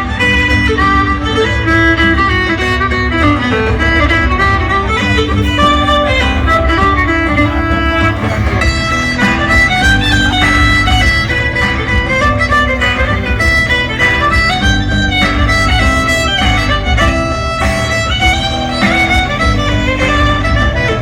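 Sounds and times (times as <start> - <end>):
loud music with heavy bass: 0.0 - 21.0.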